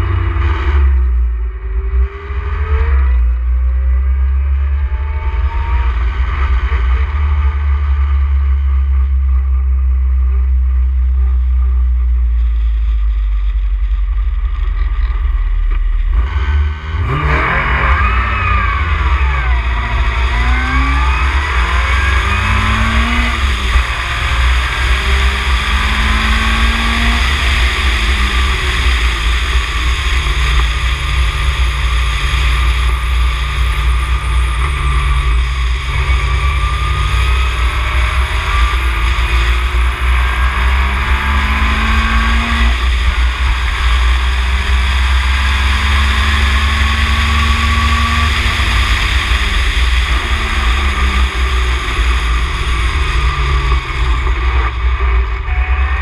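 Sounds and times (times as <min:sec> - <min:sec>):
race car engine revving: 0:00.0 - 0:56.0
wind rumble: 0:00.0 - 0:56.0.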